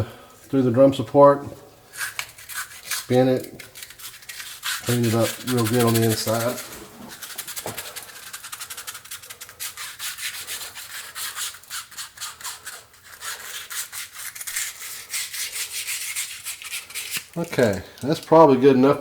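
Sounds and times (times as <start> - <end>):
sandpaper scratching inside roller: 2.0 - 17.3.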